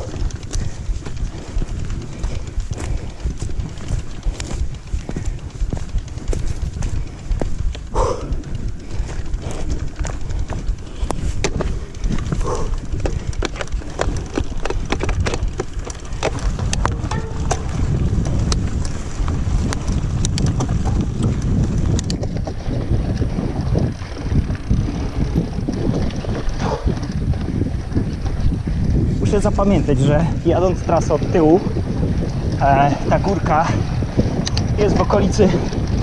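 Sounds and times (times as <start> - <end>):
bike clicks and rattles: 0.0 - 36.0
wind rumbling on microphone: 0.0 - 36.0.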